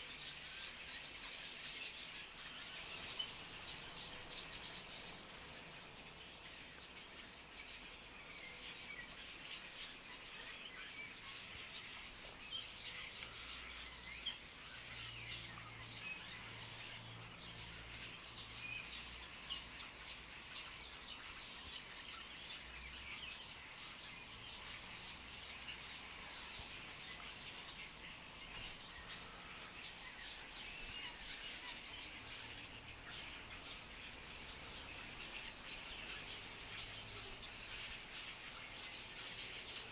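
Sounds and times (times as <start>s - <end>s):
starling flock twittering: 0.0s - 39.9s.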